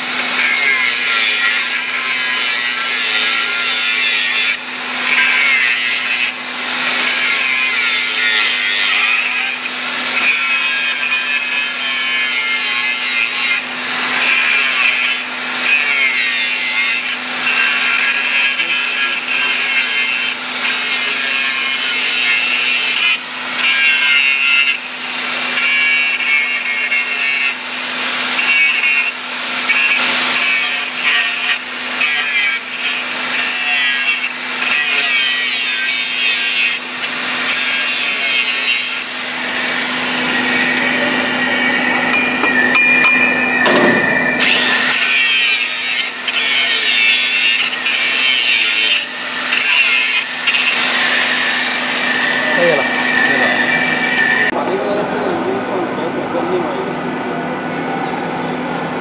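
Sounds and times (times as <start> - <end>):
angle grinder grinding steel: 0.0 - 54.6.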